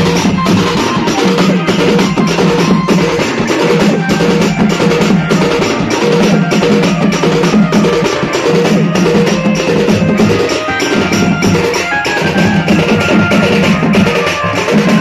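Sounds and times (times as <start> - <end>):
drums struck with sticks: 0.0 - 15.0
short repeated pitched notes: 0.0 - 15.0.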